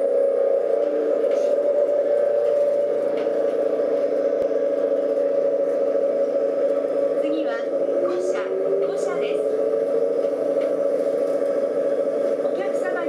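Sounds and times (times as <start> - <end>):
train electrical hum and whir: 0.0 - 13.0.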